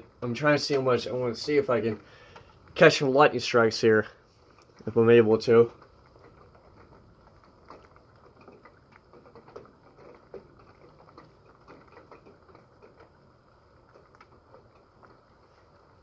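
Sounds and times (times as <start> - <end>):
raindrops pattering: 0.0 - 16.0.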